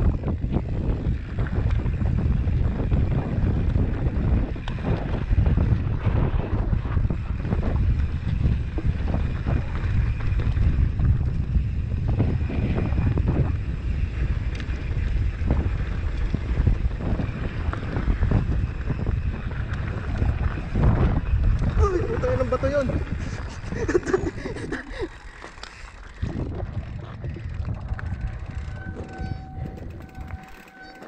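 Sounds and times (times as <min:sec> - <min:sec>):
bike rattling over bumps: 0:00.0 - 0:31.0
wind buffeting microphone: 0:00.0 - 0:31.0.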